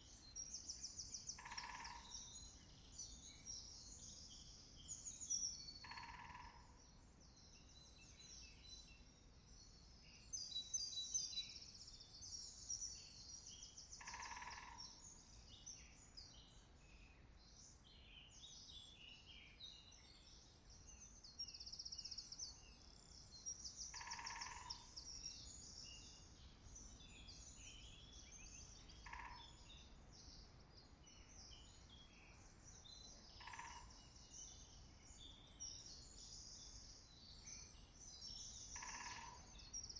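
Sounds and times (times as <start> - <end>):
woodland birds chirping: 0.2 - 8.6, 12.4 - 39.9.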